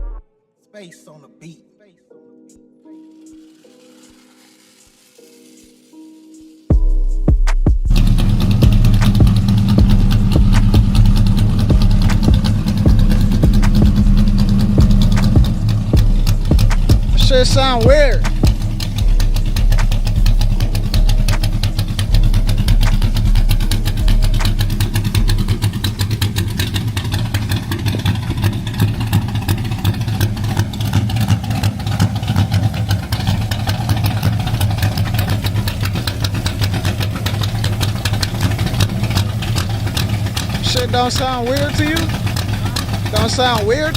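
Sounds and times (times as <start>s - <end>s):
car engine idling: 6.7s - 43.9s.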